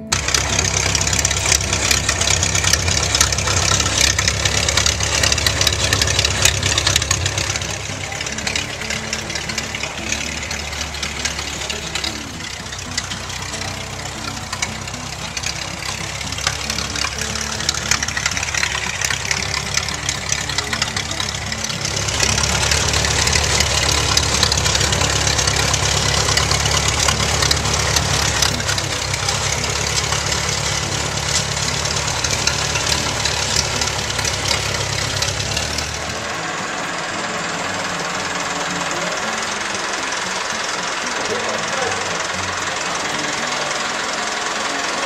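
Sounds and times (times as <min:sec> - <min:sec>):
crawler tractor engine knocking: 0:00.0 - 0:45.0.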